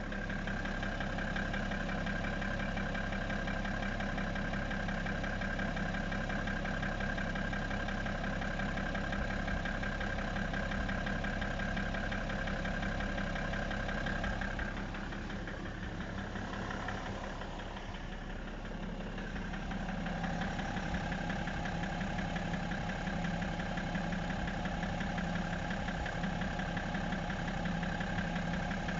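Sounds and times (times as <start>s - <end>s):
diesel engine idling with knocking: 0.0s - 28.9s.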